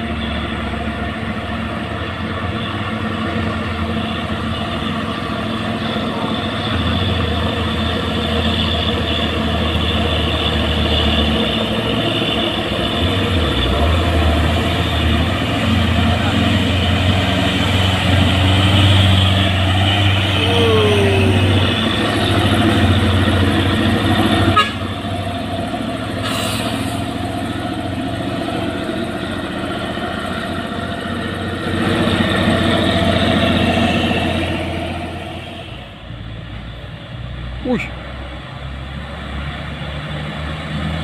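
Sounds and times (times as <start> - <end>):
diesel truck engines droning: 0.0 - 41.0.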